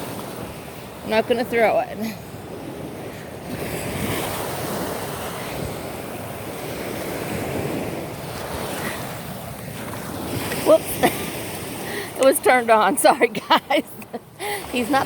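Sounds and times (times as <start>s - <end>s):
surf washing in: 0.0s - 15.0s
wind on microphone: 0.0s - 15.0s.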